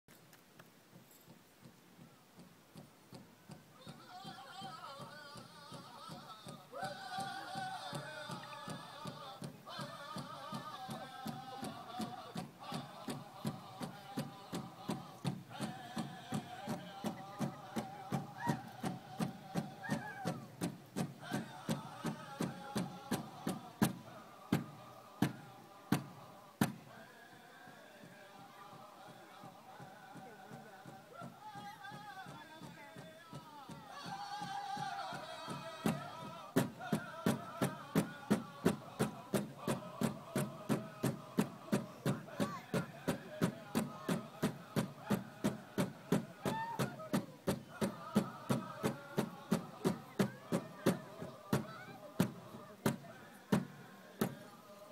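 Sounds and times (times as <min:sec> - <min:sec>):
powwow drum beating: 0:01.6 - 0:54.9
faint voices: 0:03.4 - 0:54.9.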